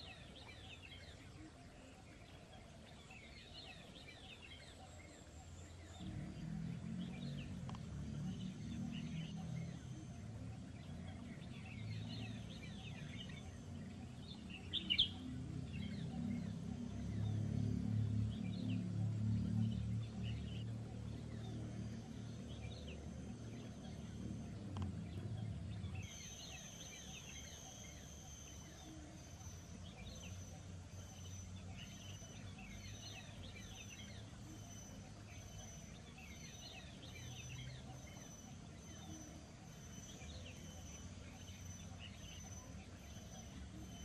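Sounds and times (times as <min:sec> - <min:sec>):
high pulsing whine: 0:00.0 - 0:44.0
wild birds chirping: 0:00.0 - 0:44.0
low hum: 0:04.7 - 0:44.0.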